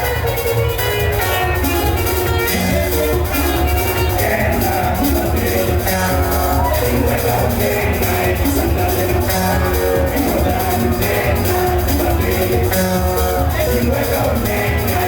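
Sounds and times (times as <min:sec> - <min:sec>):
bass line: 0:00.0 - 0:15.0
live band music: 0:00.0 - 0:15.0
steady drum beat: 0:00.0 - 0:15.0.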